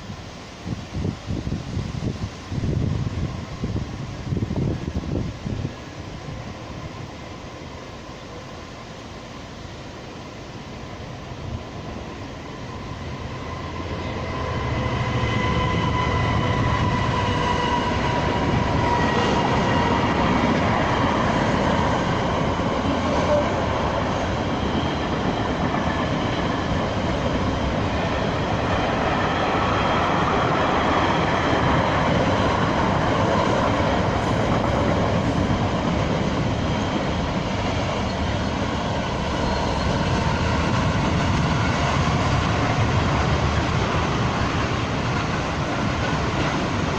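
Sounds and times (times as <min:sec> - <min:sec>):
train wheels rumbling on rails: 0:00.8 - 0:46.9.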